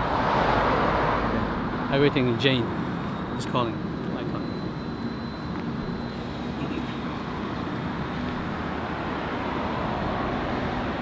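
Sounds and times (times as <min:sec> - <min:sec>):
vehicle engines and street traffic: 0:00.0 - 0:11.0.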